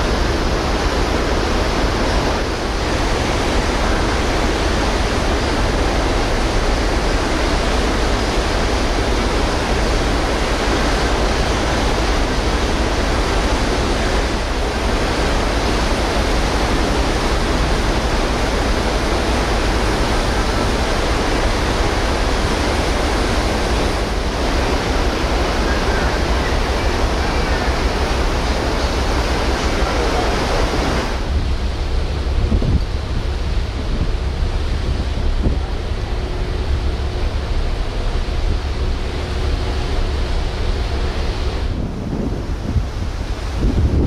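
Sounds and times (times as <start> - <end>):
heavy low rumble: 0.0 - 44.0
wind and sea rushing: 0.0 - 44.0.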